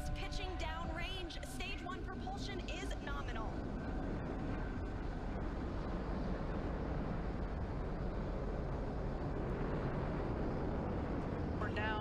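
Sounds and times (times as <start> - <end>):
rocket engines deep rumbling: 0.0 - 12.0.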